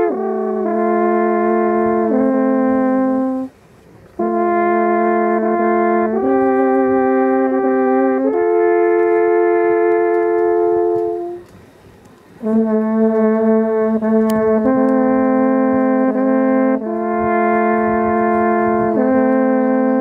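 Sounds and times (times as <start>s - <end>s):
alphorns playing a duet: 0.0s - 20.0s.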